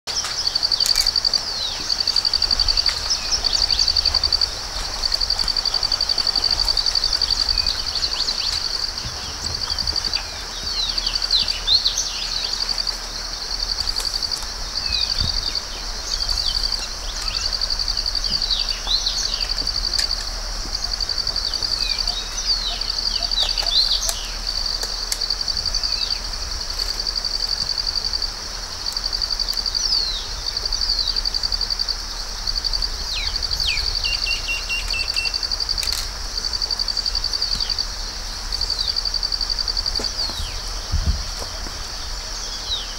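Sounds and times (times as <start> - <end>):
birds chirping: 0.1 - 42.9
high-pitched insect trilling: 0.1 - 42.9.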